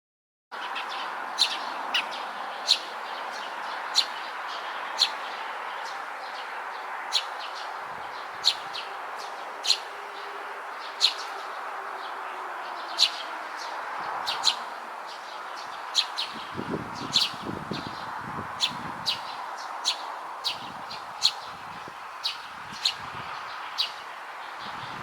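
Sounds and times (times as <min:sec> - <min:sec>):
sparrow chirping: 0:00.6 - 0:25.0.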